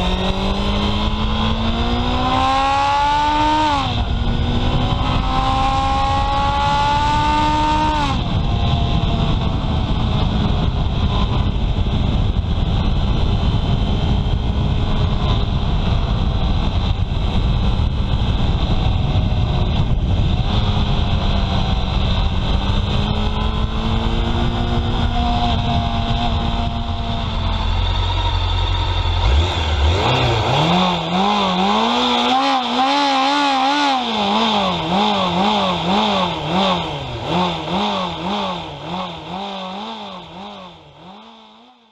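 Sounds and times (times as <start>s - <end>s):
wind buffeting microphone: 0.0s - 39.5s
motorcycle engine revving: 0.0s - 41.9s.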